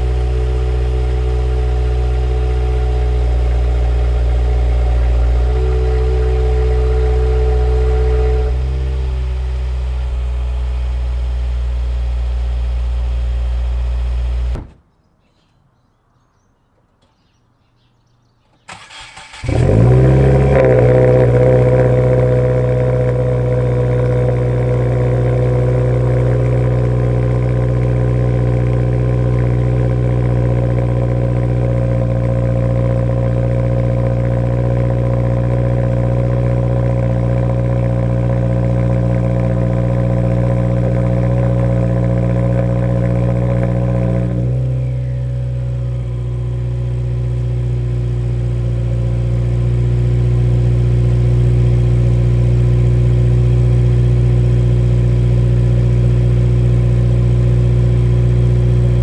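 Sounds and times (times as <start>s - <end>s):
car engine idling: 0.0s - 14.7s, 18.6s - 59.0s.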